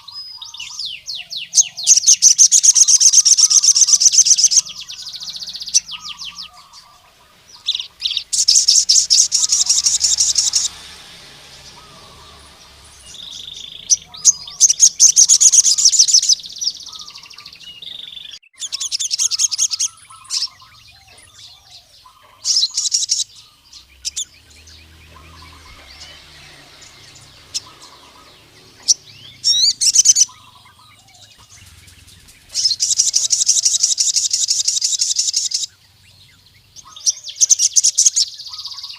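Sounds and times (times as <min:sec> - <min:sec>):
bird high-pitched trill: 0:00.0 - 0:38.9
soft bird chirps: 0:00.0 - 0:38.9.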